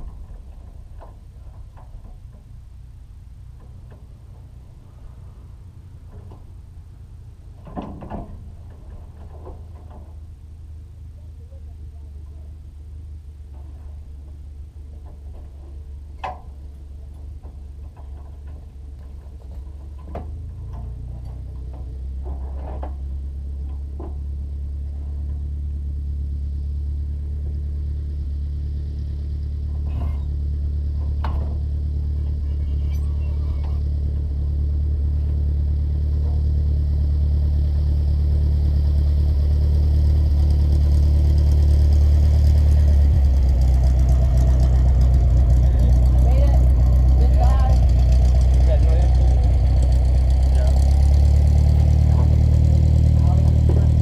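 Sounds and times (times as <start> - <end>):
vehicle engine approaching: 0.0 - 54.0.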